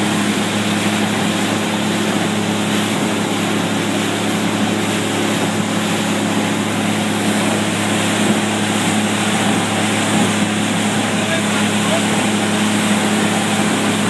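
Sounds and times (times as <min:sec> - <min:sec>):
outboard motor running: 0:00.0 - 0:14.0
water rushing from wake: 0:00.0 - 0:14.0.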